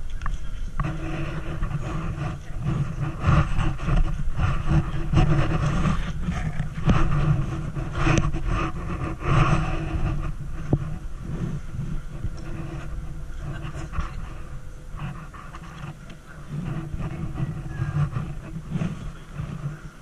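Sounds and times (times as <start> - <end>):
camera handling rumble: 0.0 - 19.9
faint steady hum: 0.0 - 20.0.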